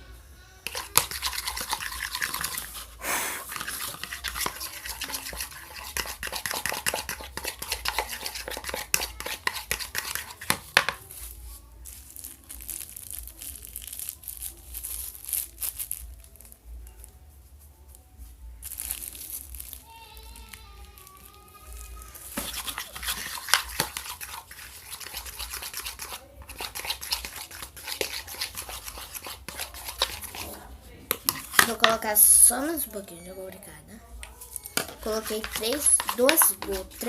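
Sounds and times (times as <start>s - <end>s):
slime being stirred: 0.6s - 17.0s, 18.6s - 37.0s.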